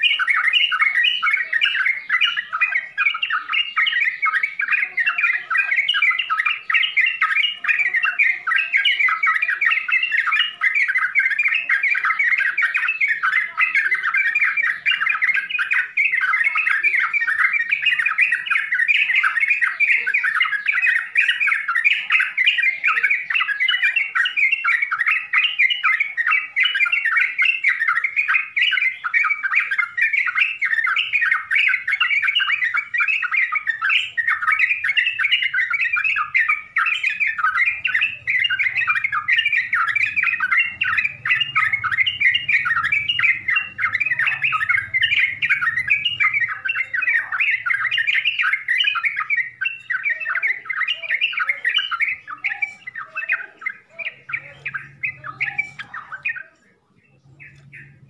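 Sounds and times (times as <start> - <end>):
bird singing rapid chattering song: 0.0 - 58.0.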